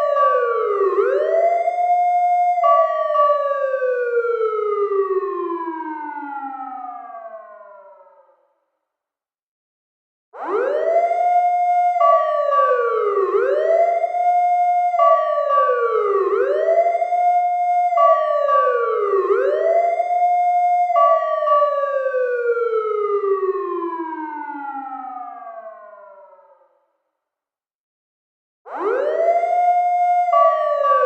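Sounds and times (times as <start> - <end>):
fire truck siren wailing: 0.0 - 8.2, 10.4 - 26.6, 28.7 - 31.0.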